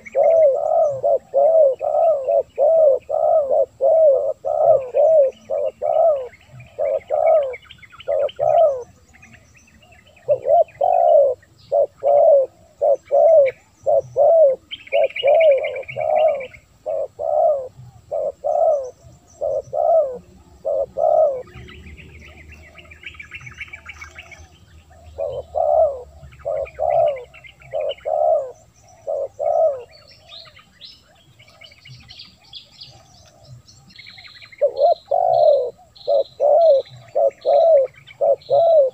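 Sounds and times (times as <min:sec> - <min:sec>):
birds chirping: 0:00.0 - 0:38.9
dove cooing: 0:00.0 - 0:38.9.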